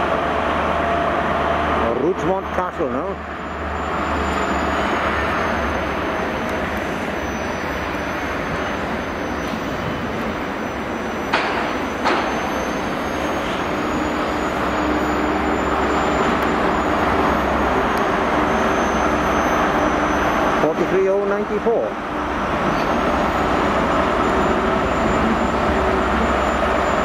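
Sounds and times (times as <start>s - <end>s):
diesel train drone and rumble: 0.0s - 27.0s.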